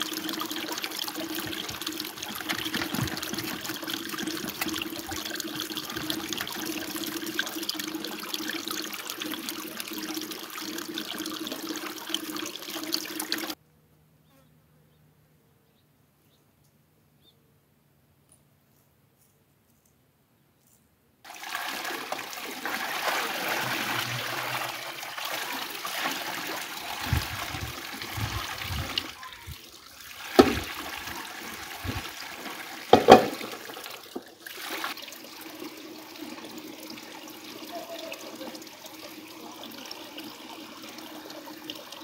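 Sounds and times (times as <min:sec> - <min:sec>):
water running and splashing: 0:00.0 - 0:13.6, 0:21.3 - 0:42.0.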